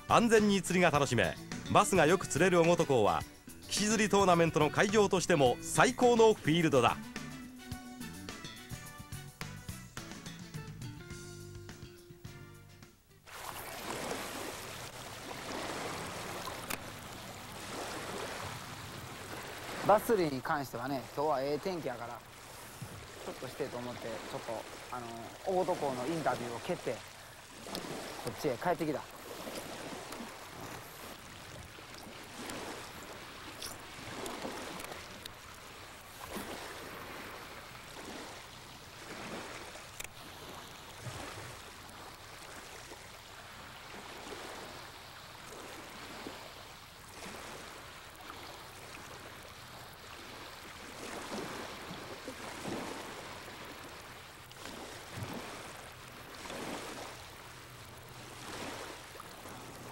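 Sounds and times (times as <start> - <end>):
small waves lapping: 0.0 - 8.8, 13.2 - 59.9.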